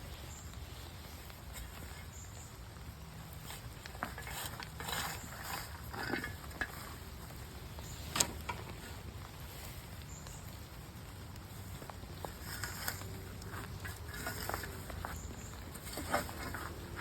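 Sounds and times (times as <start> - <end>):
leaves rustling and scraping: 0.0 - 17.0.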